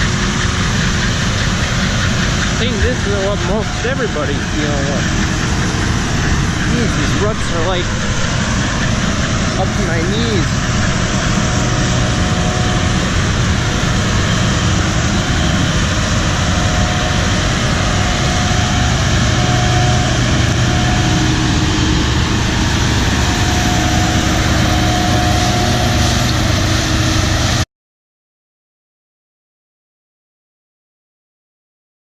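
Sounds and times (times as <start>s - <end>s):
faint whining tones: 0.0s - 27.6s
farm machinery engine running: 0.0s - 27.6s.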